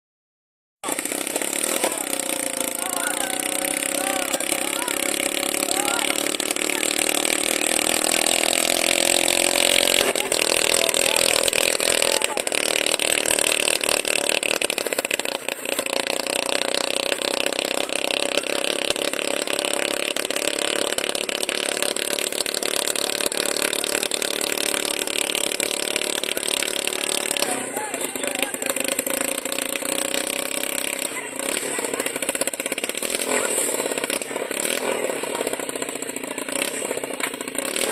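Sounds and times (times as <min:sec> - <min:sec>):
engine running: 0:00.8 - 0:37.9.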